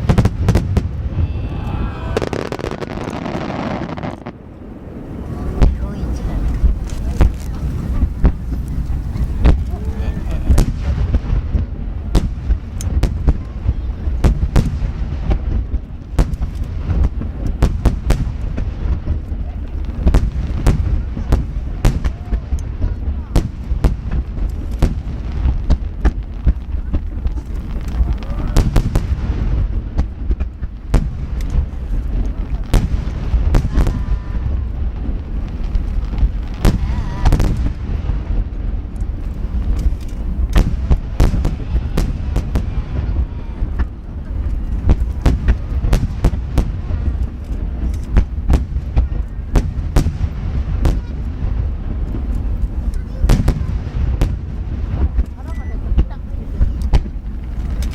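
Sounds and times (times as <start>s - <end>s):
firework shells booming: 0.0s - 57.9s
low rumble of bursts and echoes: 0.0s - 57.9s.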